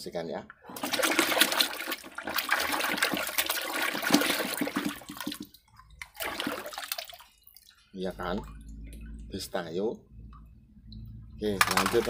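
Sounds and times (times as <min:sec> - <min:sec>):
water sloshing and splashing in basin: 0:00.5 - 0:12.0.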